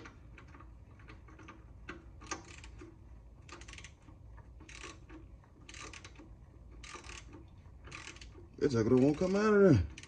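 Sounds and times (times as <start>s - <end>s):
ratchet wrench clicking: 0.0s - 10.0s.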